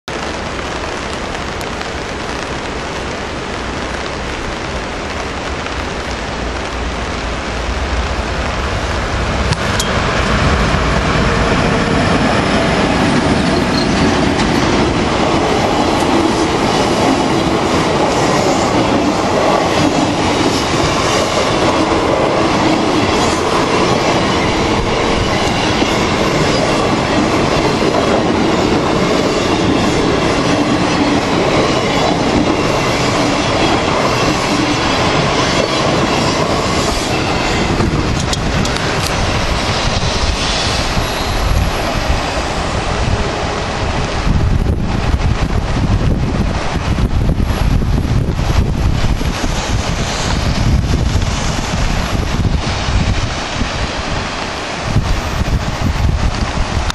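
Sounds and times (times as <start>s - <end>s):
passenger train passing: 0.1s - 56.9s.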